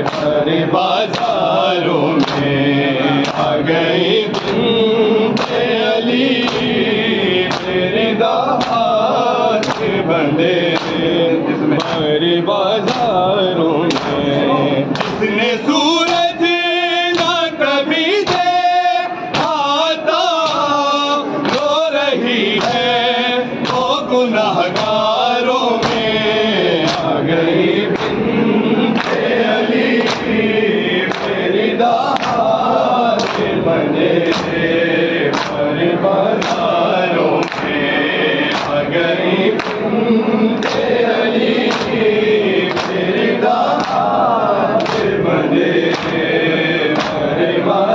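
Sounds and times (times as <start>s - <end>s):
palms slapping chests: 0.0s - 18.6s, 21.4s - 47.7s
men chanting in unison: 0.0s - 47.9s.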